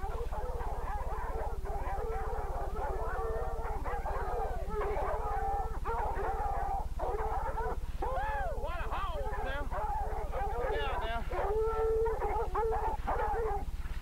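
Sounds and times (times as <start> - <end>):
dogs baying and yelping: 0.0 - 13.8
low hum: 0.0 - 14.0.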